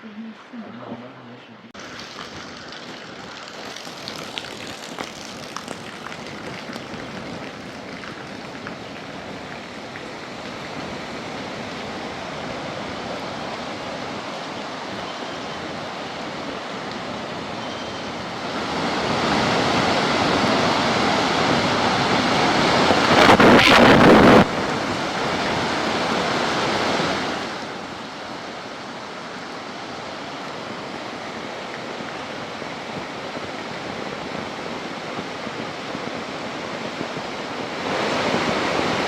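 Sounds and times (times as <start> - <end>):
wind: 0.0 - 39.0
rain: 1.7 - 39.0.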